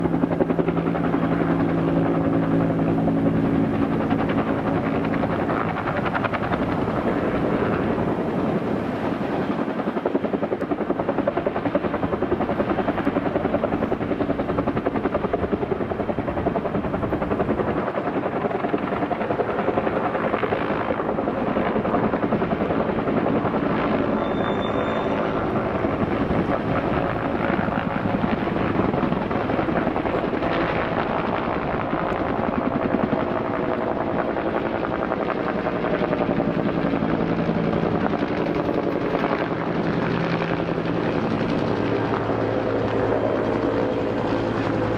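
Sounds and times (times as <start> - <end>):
helicopter rotor beating: 0.0 - 44.9.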